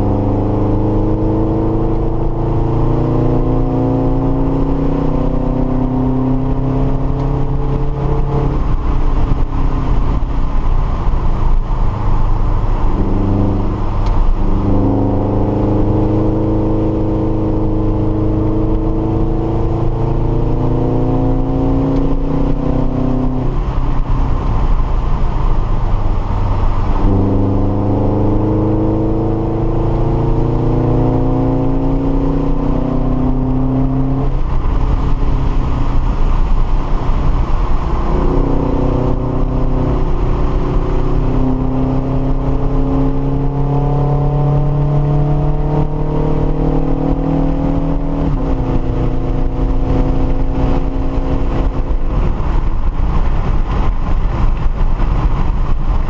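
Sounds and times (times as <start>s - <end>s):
car engine revving: 0.0s - 56.0s
road noise: 0.0s - 56.0s.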